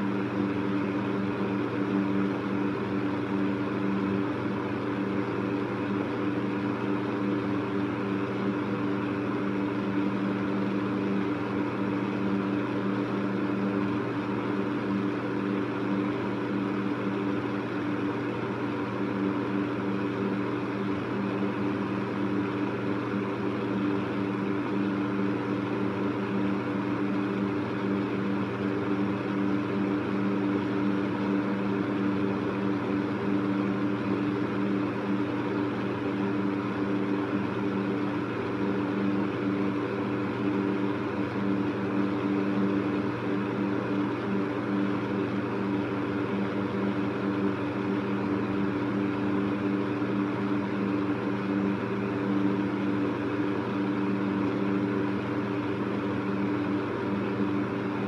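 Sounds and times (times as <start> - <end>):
electric fan humming: 0.0 - 58.0.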